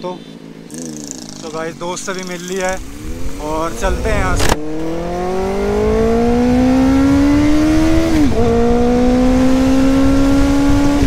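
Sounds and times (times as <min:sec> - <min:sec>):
motorcycle engine accelerating: 0:00.5 - 0:11.0.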